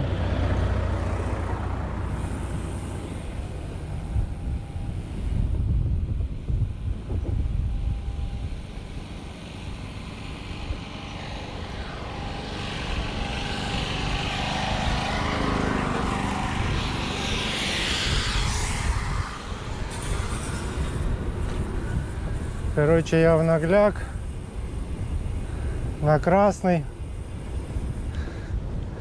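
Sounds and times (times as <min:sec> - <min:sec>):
vehicle passing: 0:00.0 - 0:05.4, 0:09.1 - 0:28.6
wind buffeting microphone: 0:00.0 - 0:29.0.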